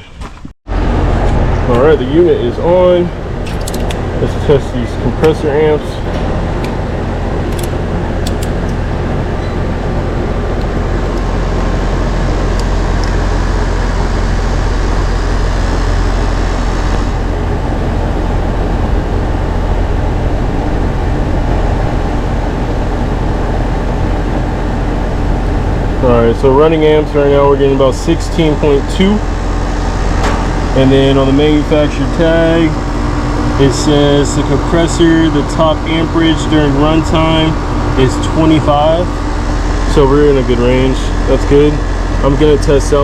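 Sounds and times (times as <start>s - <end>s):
air conditioner unit humming: 0.0s - 43.0s.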